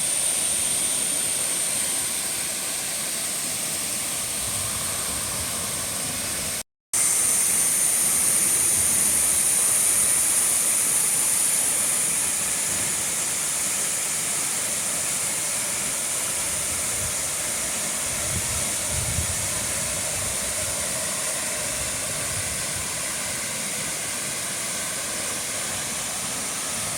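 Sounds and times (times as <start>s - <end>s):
waterfall rushing into pool: 0.0s - 26.9s.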